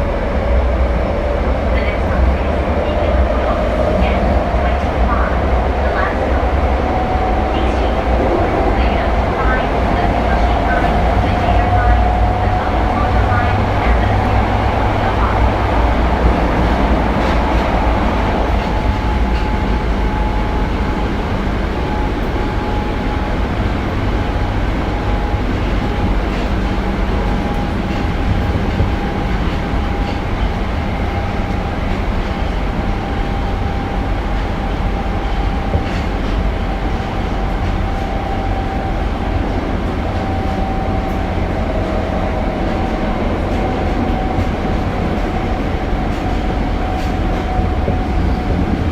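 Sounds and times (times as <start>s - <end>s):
subway train running: 0.0s - 48.9s.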